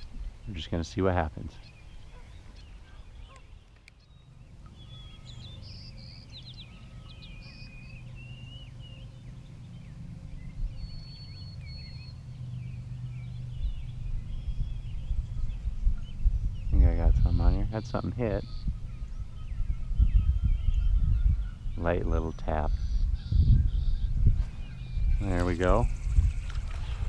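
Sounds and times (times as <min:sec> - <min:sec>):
birds chirping and singing: 0:00.0 - 0:27.0
low steady rumble: 0:00.0 - 0:27.0.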